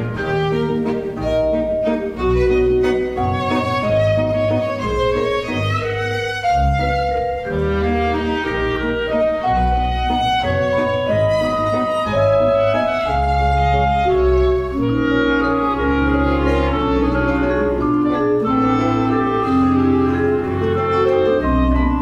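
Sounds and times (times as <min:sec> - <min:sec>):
instrumental soundtrack music: 0:00.0 - 0:22.0.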